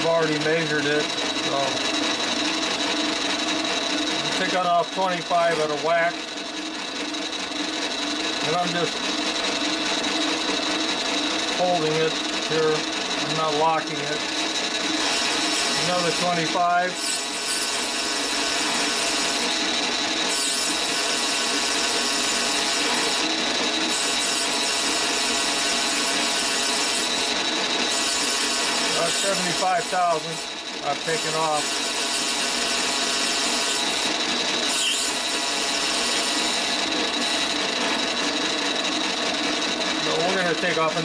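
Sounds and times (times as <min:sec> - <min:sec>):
lathe motor running: 0:00.0 - 0:41.0
tool cutting brass: 0:00.0 - 0:41.0.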